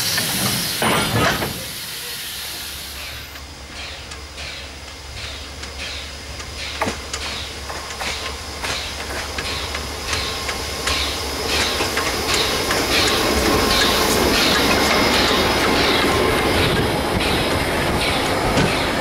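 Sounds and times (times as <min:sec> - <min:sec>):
steam locomotive chugging: 0:00.0 - 0:19.0
wheels clicking over rails: 0:03.3 - 0:19.0.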